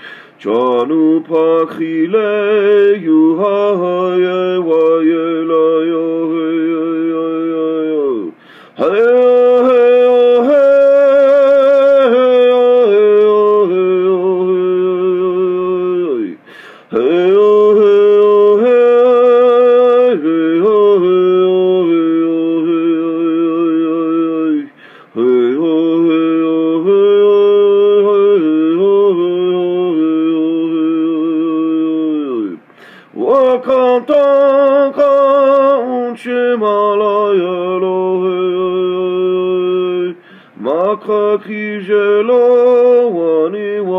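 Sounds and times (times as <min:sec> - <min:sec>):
man singing unaccompanied: 0:00.0 - 0:43.9.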